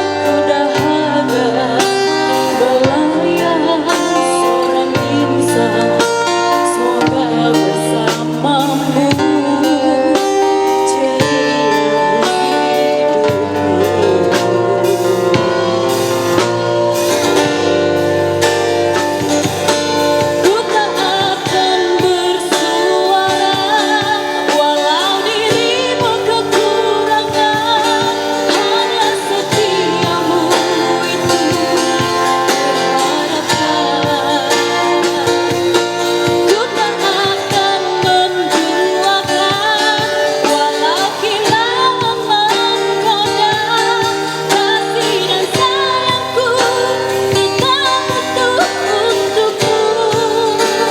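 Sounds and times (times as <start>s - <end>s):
drums: 0.0s - 50.9s
guitar: 0.0s - 50.9s
woman singing: 0.0s - 50.9s.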